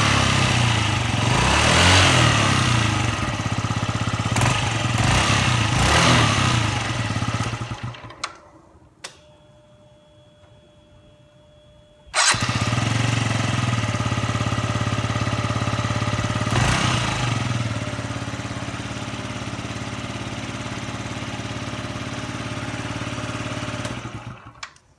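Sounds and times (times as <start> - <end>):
scooter engine starting and idling: 0.0 - 9.4, 12.0 - 24.9.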